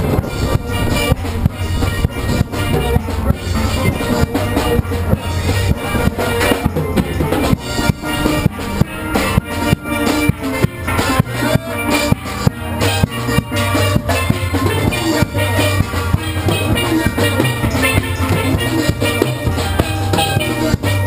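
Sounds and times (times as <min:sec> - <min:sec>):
drums keeping steady beat: 0:00.0 - 0:21.0
steel pans struck with mallets: 0:00.0 - 0:21.0.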